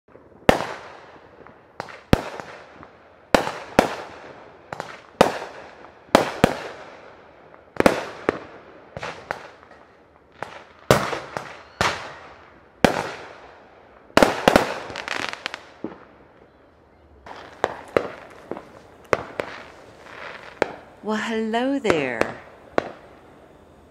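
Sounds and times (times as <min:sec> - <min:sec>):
fireworks bangs with echo: 0:00.1 - 0:16.6, 0:17.2 - 0:23.8.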